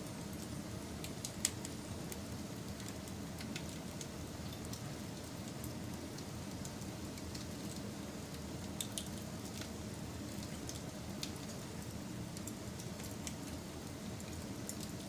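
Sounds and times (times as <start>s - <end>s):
wood fire crackling and popping: 0.2s - 15.0s.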